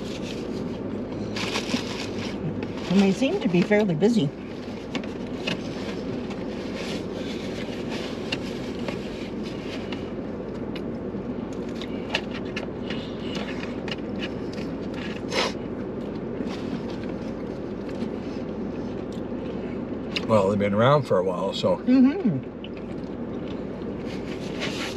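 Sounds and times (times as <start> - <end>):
car cabin hum: 0.0 - 24.9.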